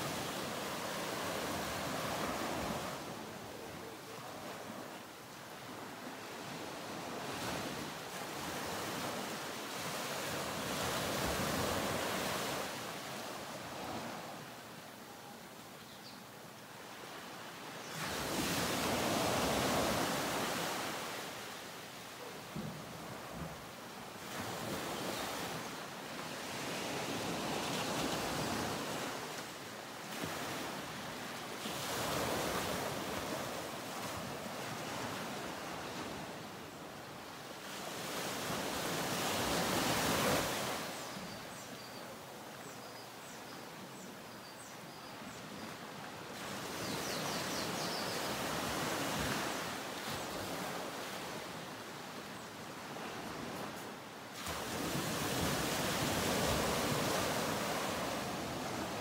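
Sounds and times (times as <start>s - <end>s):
small waves washing onto beach: 0.0s - 15.7s, 16.4s - 43.9s, 45.2s - 59.0s.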